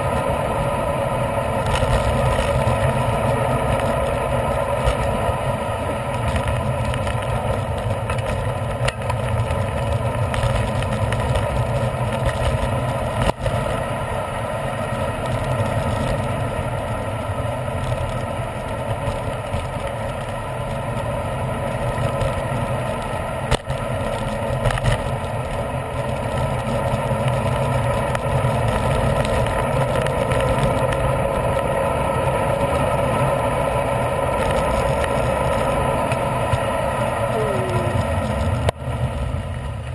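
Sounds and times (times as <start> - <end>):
bicycle rolling on asphalt: 0.0 - 39.9.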